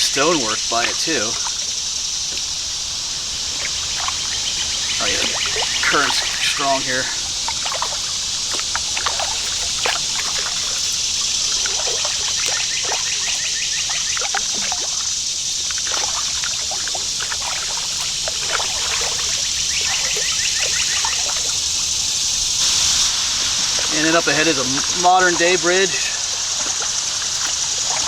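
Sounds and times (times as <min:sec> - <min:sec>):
creek water rushing: 0:00.0 - 0:28.0
small splashes and drips: 0:00.0 - 0:28.0.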